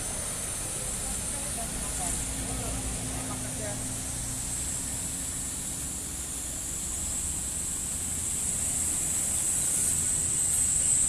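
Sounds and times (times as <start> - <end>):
steady high-pitched hiss: 0.0 - 11.0.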